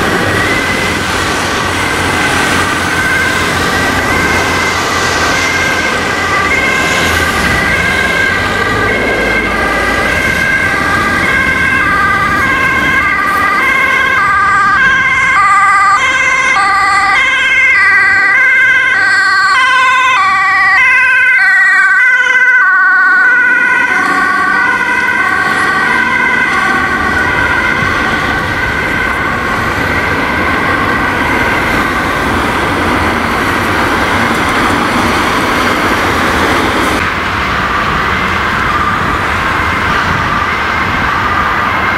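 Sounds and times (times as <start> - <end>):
two-tone ambulance siren: 0.0 - 41.9.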